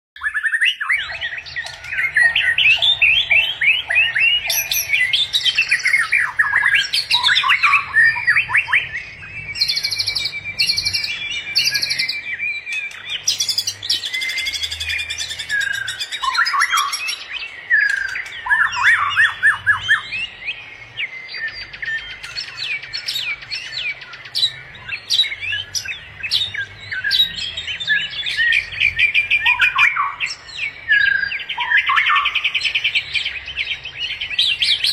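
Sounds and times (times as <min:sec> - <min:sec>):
birds chirping and singing: 0:00.2 - 0:34.9.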